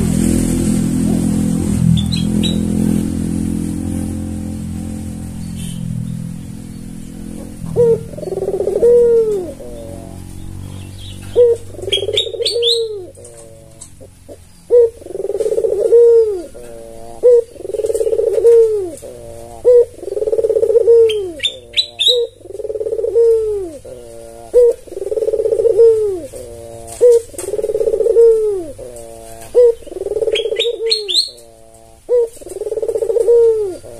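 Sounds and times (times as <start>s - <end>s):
small bird chirping: 2.0s - 2.8s, 5.3s - 33.9s
dove cooing: 6.4s - 33.9s.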